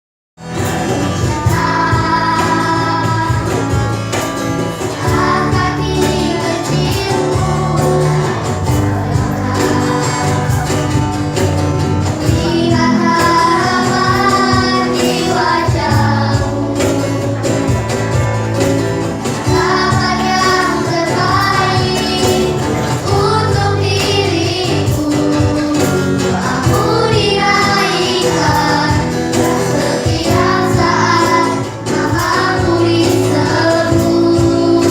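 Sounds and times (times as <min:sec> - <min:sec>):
instrumental backing with steady beat: 0:00.4 - 0:34.9
children singing together: 0:00.5 - 0:34.9.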